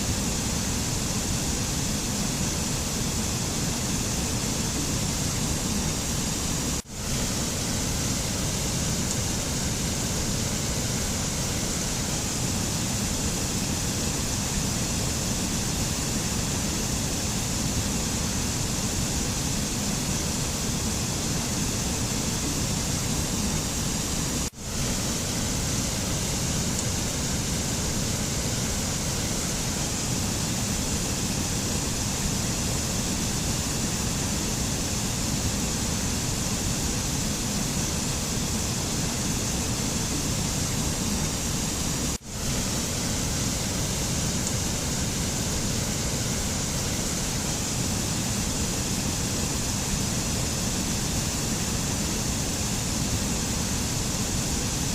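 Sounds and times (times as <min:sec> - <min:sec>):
steady rushing noise: 0:00.0 - 0:54.9.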